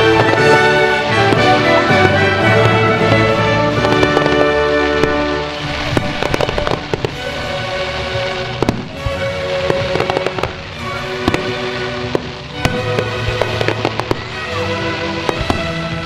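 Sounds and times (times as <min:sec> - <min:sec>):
fireworks bangs and crackles: 0:00.0 - 0:16.0
music with held notes: 0:00.0 - 0:16.0.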